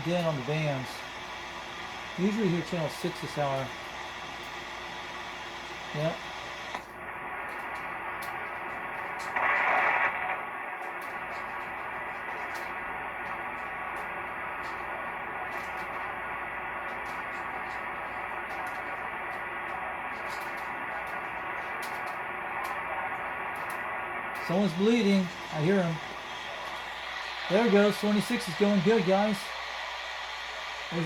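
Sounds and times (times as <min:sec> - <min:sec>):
radio static hissing: 0:00.0 - 0:31.0.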